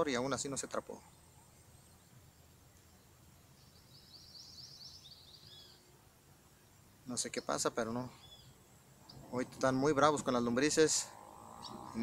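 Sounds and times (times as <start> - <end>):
small bird singing: 0.0 - 12.0.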